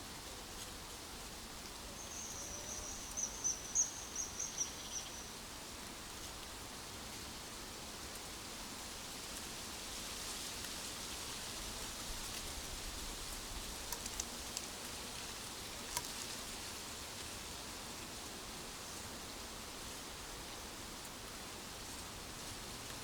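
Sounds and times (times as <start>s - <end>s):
steady nature ambience hiss: 0.0s - 23.0s.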